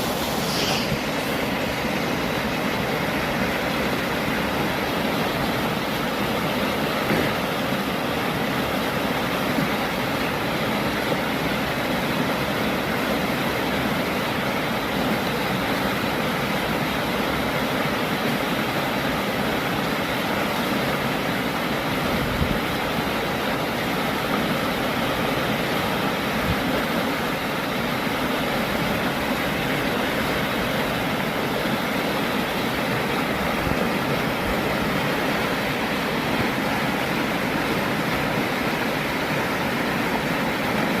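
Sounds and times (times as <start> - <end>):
sea surf roaring: 0.0 - 41.0.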